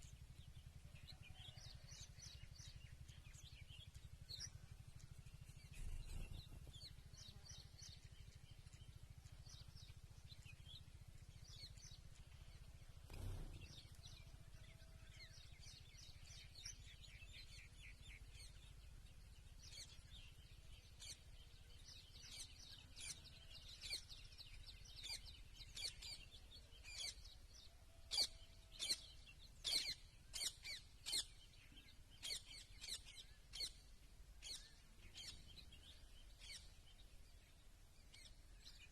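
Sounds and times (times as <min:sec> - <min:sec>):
low steady rumble: 0:00.0 - 0:38.9
small birds chirping: 0:00.0 - 0:38.9.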